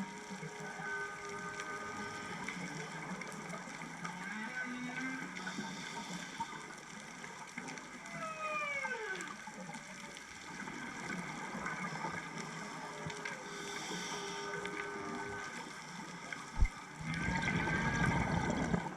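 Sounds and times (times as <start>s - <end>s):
sea hiss and crackle: 0.0s - 18.9s
whale song: 0.0s - 18.9s.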